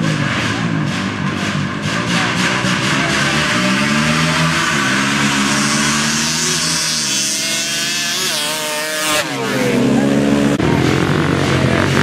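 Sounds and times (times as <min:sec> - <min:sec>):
atv engines at full throttle: 0:00.0 - 0:12.0.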